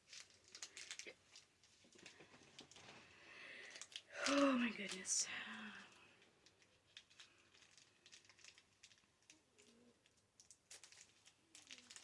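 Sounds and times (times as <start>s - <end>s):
package wrapping rustling: 0.0s - 12.0s.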